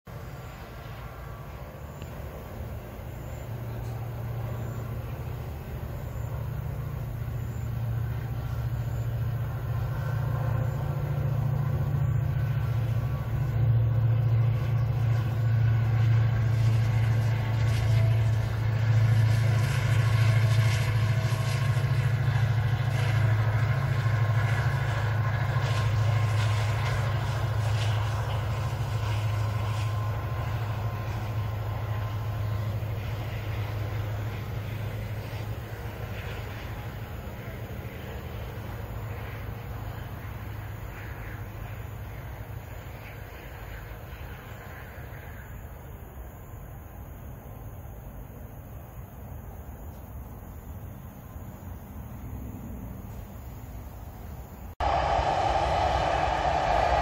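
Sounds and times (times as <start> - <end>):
locomotive engine drone: 0.1 - 57.0
train wheels rumbling on rail: 0.1 - 57.0.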